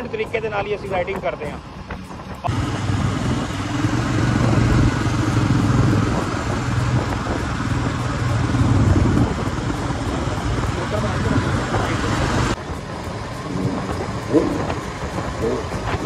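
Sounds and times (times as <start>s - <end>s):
motorcycle engines humming: 0.0s - 16.0s
wind rush and road noise: 0.0s - 16.0s.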